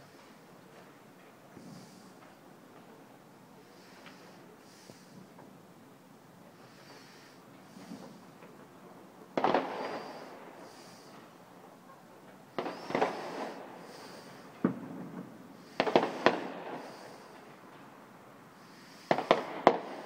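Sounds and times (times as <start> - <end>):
distant firework bursts: 1.6 - 5.6, 6.4 - 20.0.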